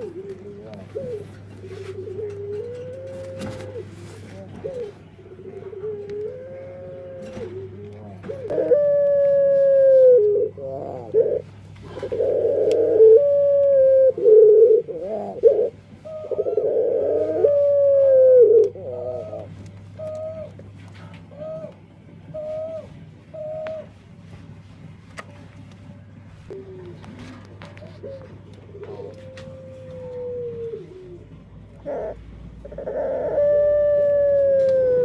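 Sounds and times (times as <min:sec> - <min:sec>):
dove cooing: 0:00.0 - 0:24.5, 0:26.0 - 0:35.0.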